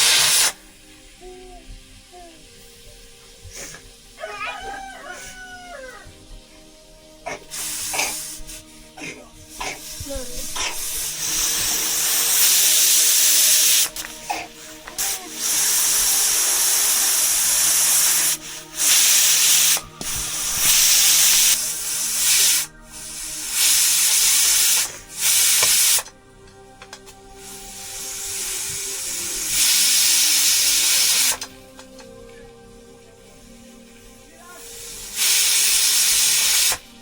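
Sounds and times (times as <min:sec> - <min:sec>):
hissing spray bursts: 0:00.0 - 0:37.0.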